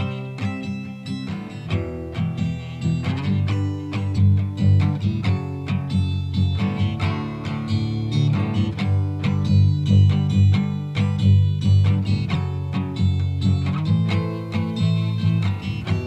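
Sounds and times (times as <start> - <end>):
plucked guitar: 0.0 - 16.0
steady bass line: 2.4 - 16.0.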